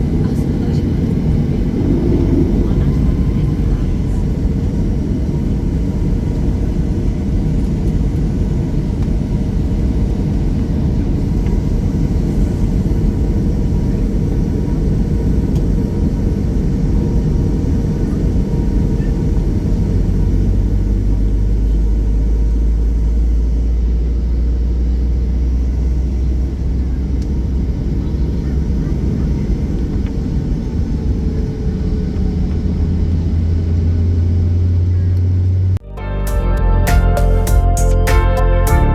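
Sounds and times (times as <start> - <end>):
airliner cabin engine rumble: 0.0 - 35.8.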